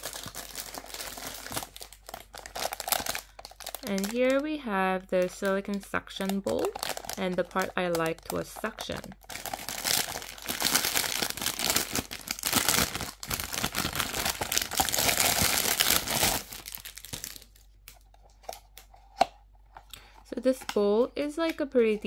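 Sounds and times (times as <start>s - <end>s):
plastic wrapping crinkling: 0.0s - 19.2s.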